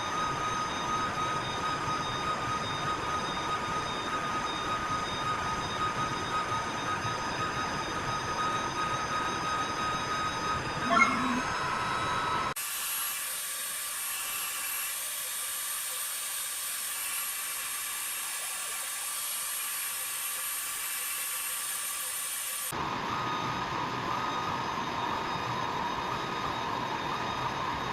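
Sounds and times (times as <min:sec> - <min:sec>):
cnc machine whine: 0:00.0 - 0:27.9.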